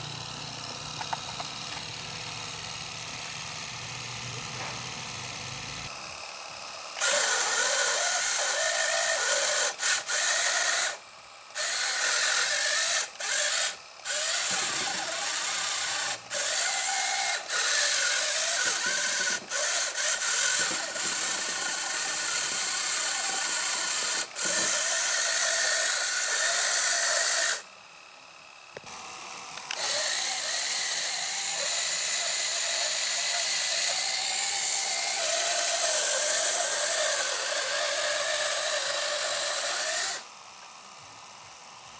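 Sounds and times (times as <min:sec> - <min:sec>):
small electric motors whirring: 0:00.0 - 0:41.9.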